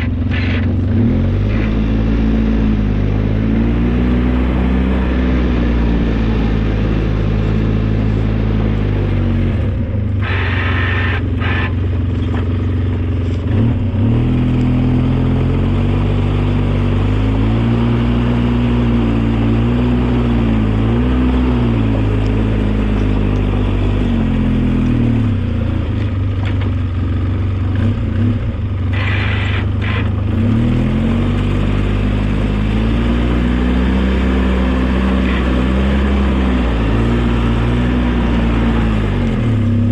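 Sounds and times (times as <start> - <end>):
snowplow engine revving: 0.0 - 39.9.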